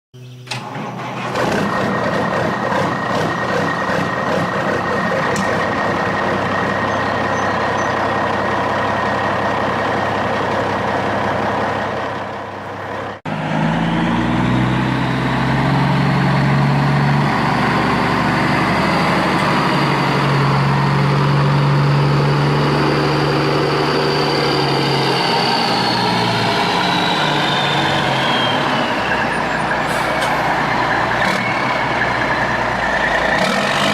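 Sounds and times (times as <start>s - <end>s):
model truck engine sound: 0.2s - 33.9s.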